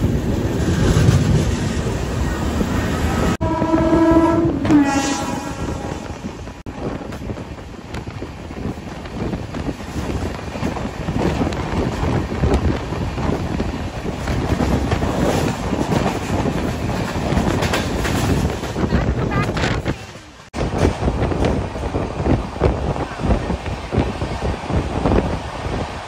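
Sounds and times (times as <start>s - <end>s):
train rumbling on tracks: 0.0s - 26.0s
wind on microphone: 0.0s - 26.0s.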